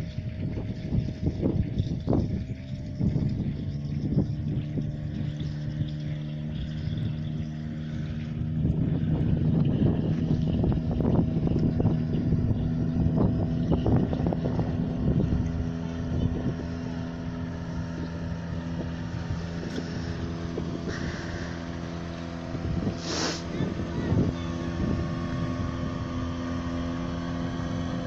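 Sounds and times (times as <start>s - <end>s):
outboard motor drone: 0.0s - 28.0s
wind buffeting microphone: 0.0s - 28.0s.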